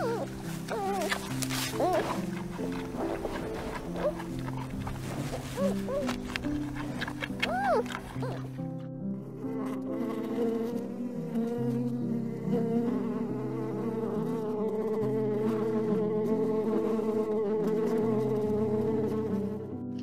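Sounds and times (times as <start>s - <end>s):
flying insect buzzing: 0.0s - 19.7s.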